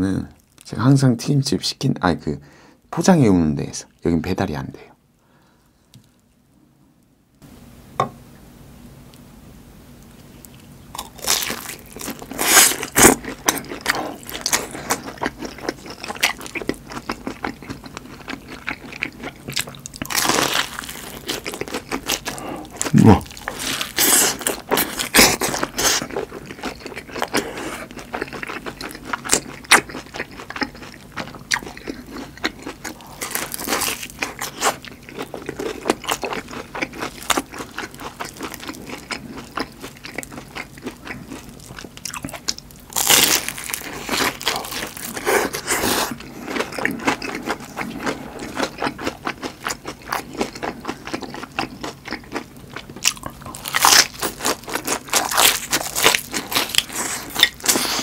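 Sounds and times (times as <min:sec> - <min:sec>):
crunching and chewing fried food: 0:10.1 - 0:58.0.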